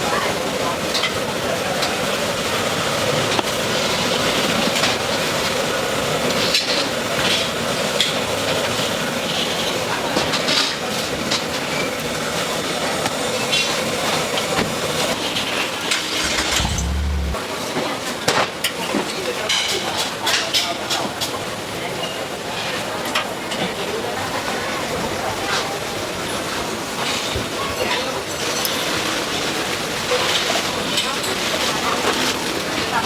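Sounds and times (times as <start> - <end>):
street food stall background noise: 0.0 - 33.0.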